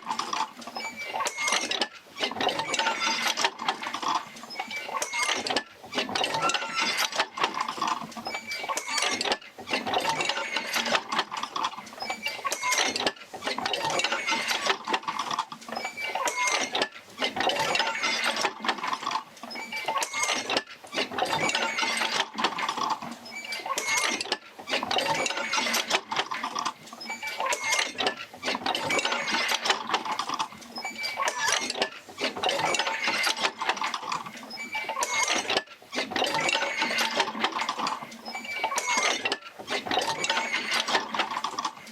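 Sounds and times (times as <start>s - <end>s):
wheel linkages creaking and knocking: 0.0s - 41.9s.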